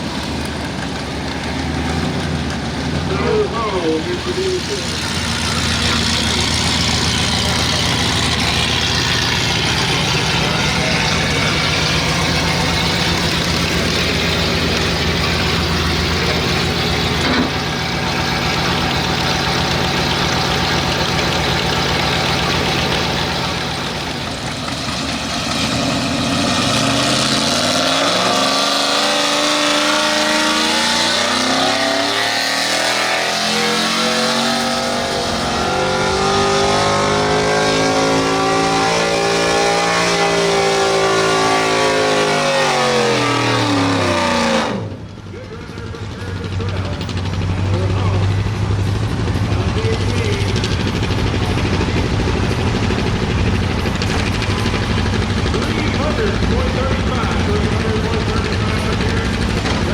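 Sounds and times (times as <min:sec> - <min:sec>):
truck engine revving high: 0:00.0 - 0:59.9.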